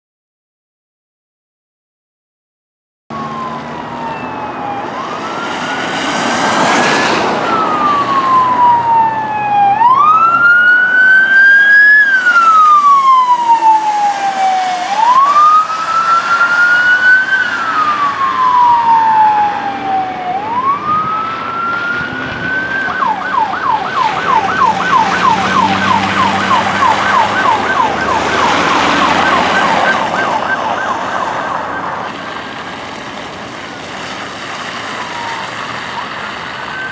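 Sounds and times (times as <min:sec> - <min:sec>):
emergency siren wailing and yelping: 0:03.1 - 0:36.9
passing trucks road noise: 0:03.1 - 0:36.9.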